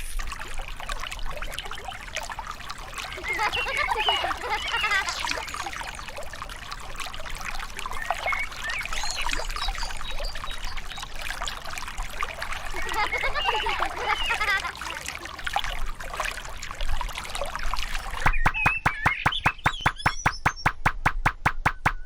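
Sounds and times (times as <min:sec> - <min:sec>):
water trickling and bubbling: 0:00.0 - 0:20.9.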